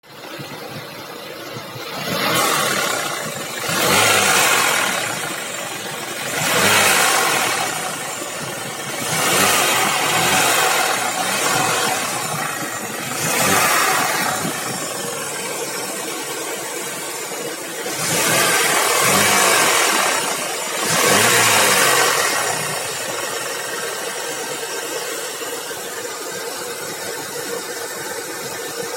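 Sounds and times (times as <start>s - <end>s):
car engine running: 0.1s - 28.9s.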